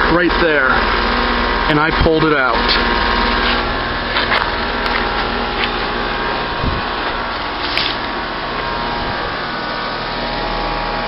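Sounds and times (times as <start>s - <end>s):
heat pump unit humming: 0.0s - 11.0s.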